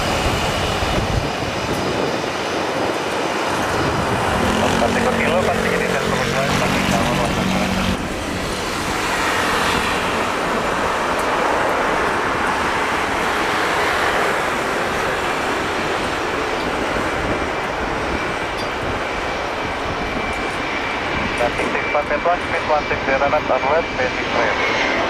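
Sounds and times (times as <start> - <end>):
jet engine rushing: 0.0 - 25.0.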